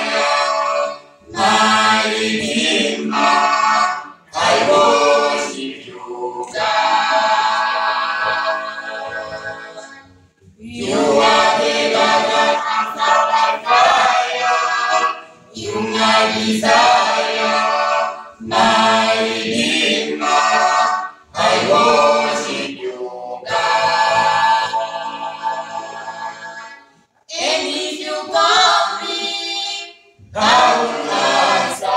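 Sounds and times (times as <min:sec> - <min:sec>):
vocal group singing a cappella: 0:00.0 - 0:31.9.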